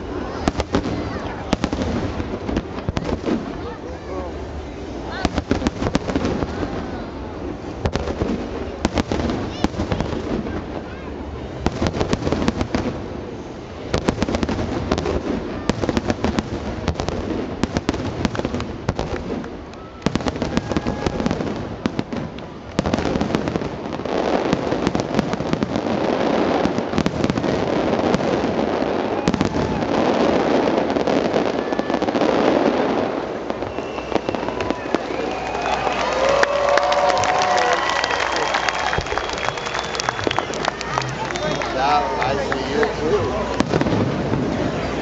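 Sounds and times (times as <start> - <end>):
fireworks banging and crackling: 0.0 - 45.0
onlookers' voices: 0.0 - 45.0.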